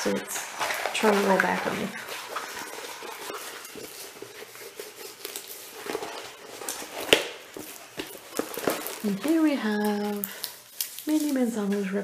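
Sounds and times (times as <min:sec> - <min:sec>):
canvas rustling in plastic sleeve: 0:00.0 - 0:12.0.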